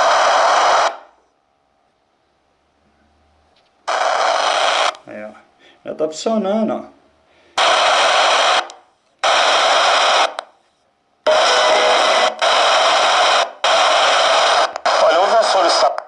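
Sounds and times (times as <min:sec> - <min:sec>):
harsh static from small loudspeaker: 0:00.0 - 0:01.4, 0:02.9 - 0:16.0.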